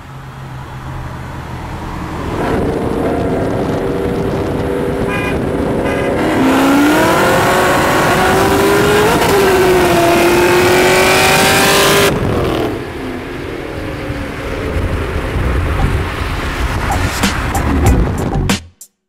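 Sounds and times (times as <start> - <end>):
car engines at full throttle: 0.0 - 18.5.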